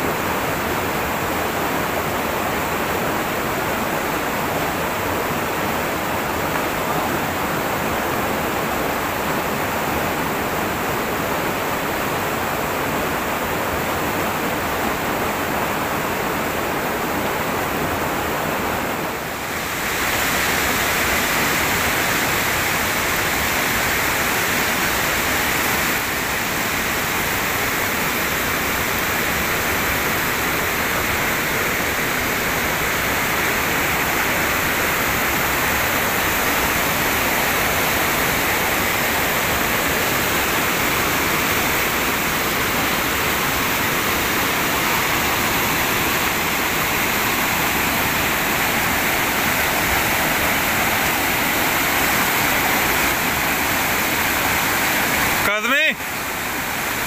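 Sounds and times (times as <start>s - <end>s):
stream cascading over boulders: 0.0s - 57.0s.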